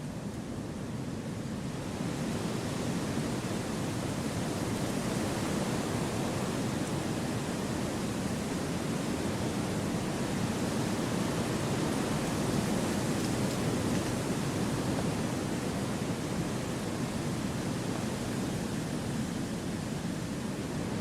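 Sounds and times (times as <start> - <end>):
wind through forest trees: 0.0 - 21.0.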